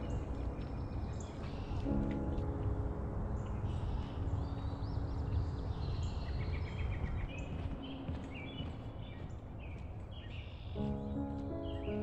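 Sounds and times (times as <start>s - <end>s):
songbirds chirping and whistling: 0.0s - 2.5s, 3.3s - 12.0s.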